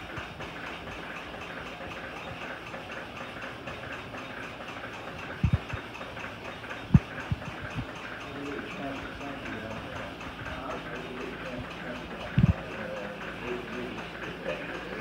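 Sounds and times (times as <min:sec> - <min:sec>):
faint regular ticking: 0:00.0 - 0:15.0.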